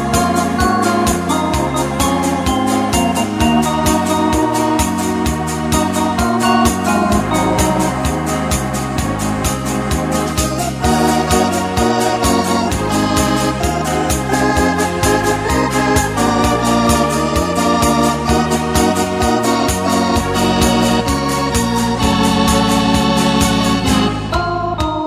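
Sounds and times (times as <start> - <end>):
organ-led music with beat: 0.0 - 25.0.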